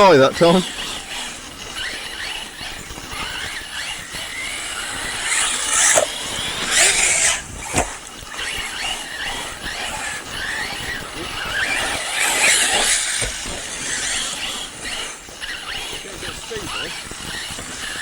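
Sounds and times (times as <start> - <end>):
high electric motor whine: 0.0 - 18.0
tyres on gravel: 0.0 - 18.0.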